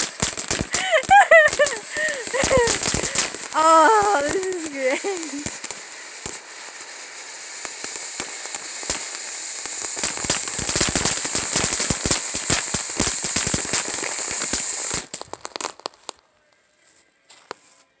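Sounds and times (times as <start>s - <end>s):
high fizzing hiss: 0.0s - 15.1s
firecrackers crackling: 0.0s - 16.4s.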